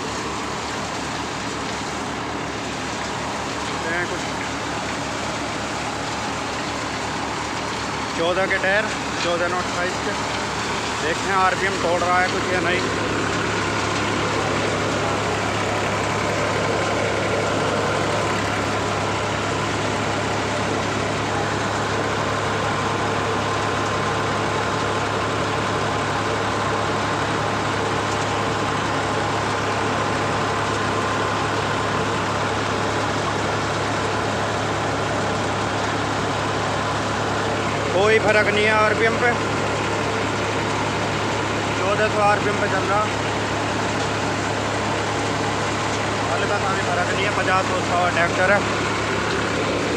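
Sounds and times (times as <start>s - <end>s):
cutter machinery noise: 0.0s - 49.9s
tractor diesel engine running: 0.0s - 49.9s.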